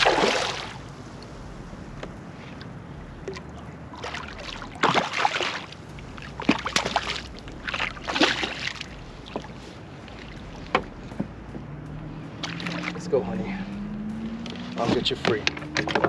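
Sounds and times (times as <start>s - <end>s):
fish thrashing and splashing: 0.0s - 16.0s.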